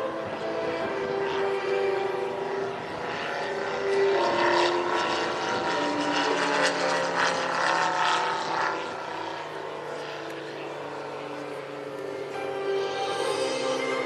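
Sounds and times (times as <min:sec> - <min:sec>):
model plane engine and propeller: 0:00.0 - 0:14.0.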